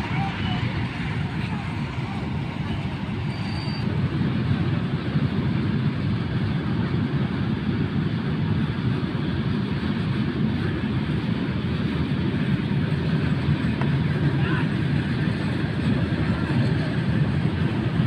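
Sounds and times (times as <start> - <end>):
freight wagons rumbling on rails: 0.0 - 18.0.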